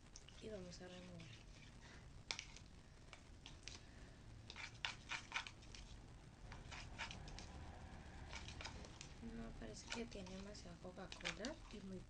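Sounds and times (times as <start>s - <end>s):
utensil stirring slime in a bowl: 0.0s - 12.0s.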